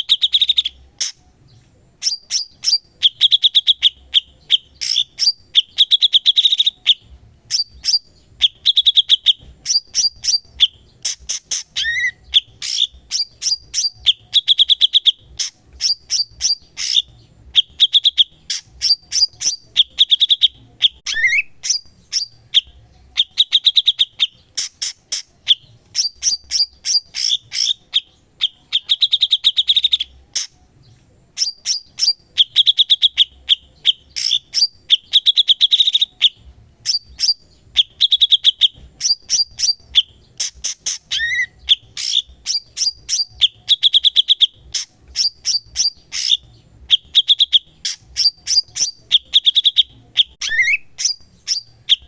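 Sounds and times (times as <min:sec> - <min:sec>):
bird singing chattering trills: 0:00.0 - 0:52.0.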